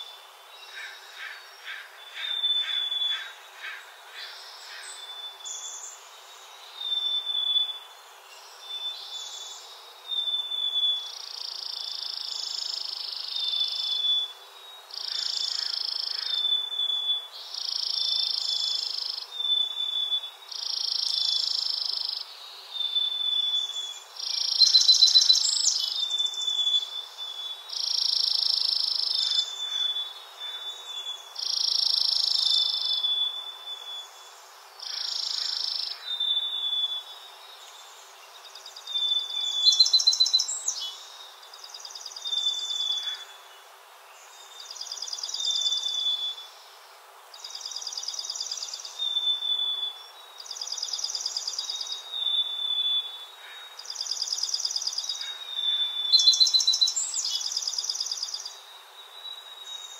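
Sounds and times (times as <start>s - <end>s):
songbird trilling song: 0.0s - 46.6s, 47.3s - 59.9s.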